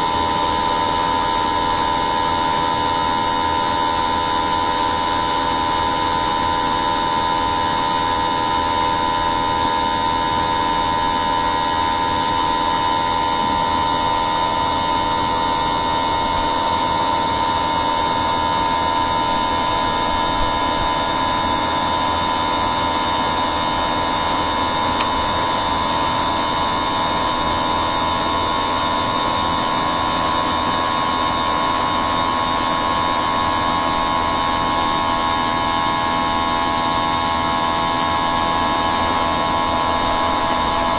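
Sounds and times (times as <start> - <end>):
constant high whine: 0.0 - 40.9
steady machine hum: 0.0 - 40.9.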